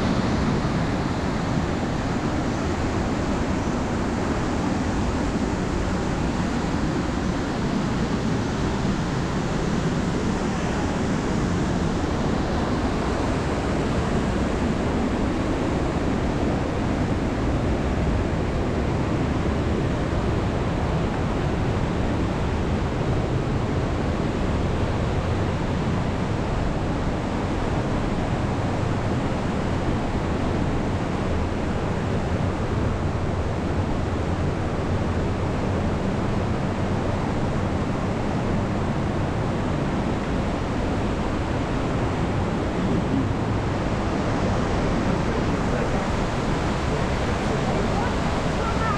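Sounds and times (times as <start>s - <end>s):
mountain river rushing: 0.0s - 48.9s.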